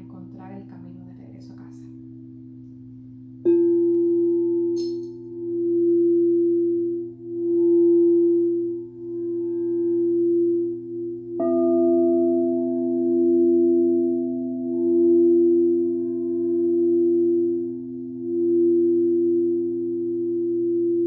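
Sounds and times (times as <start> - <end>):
singing bowls ringing: 1.4 - 21.0
higher-pitched bowl struck: 1.7 - 21.0.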